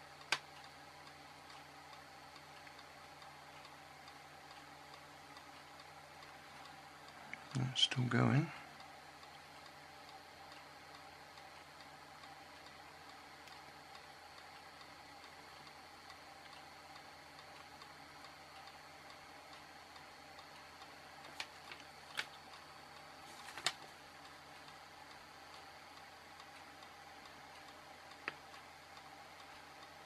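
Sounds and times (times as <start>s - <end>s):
small fan humming: 0.0s - 30.0s.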